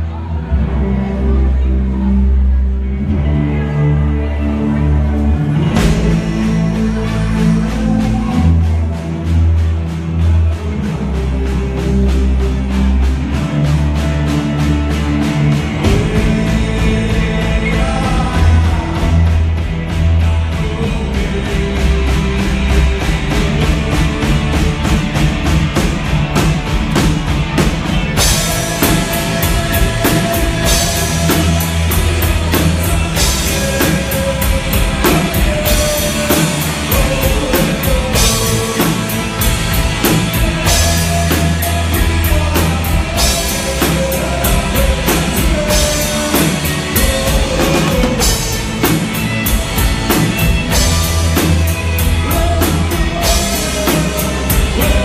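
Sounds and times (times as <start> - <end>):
bass guitar: 0.0 - 55.0
electric guitars: 0.0 - 55.0
drum kit: 5.1 - 55.0.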